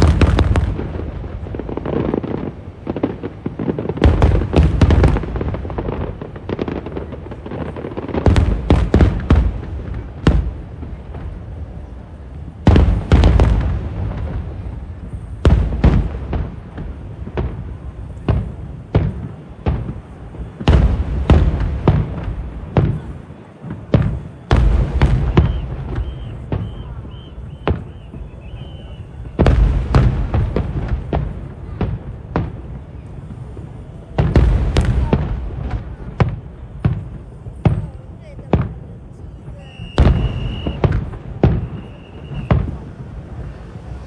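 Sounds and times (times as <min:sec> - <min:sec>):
fireworks bangs and booms: 0:00.0 - 0:44.0.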